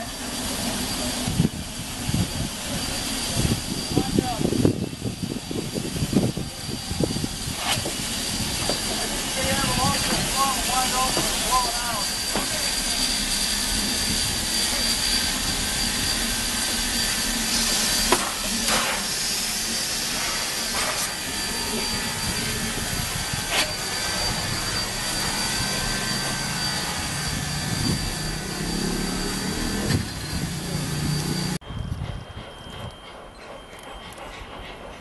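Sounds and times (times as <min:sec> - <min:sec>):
steady high whine: 0:00.0 - 0:32.0
steam locomotive hissing: 0:00.0 - 0:35.0
railway cars clanking: 0:05.3 - 0:35.0.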